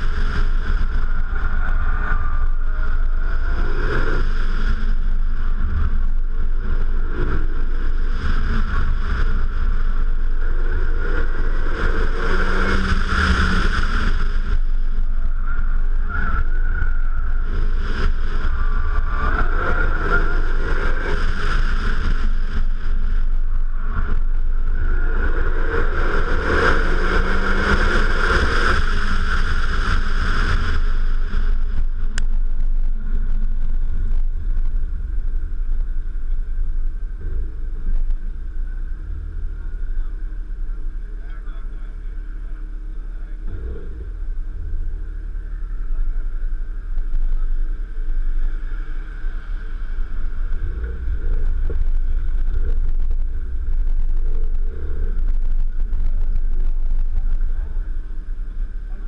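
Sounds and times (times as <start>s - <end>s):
car engine accelerating hard: 0.0s - 59.0s
wind rumble on microphone: 0.0s - 59.0s.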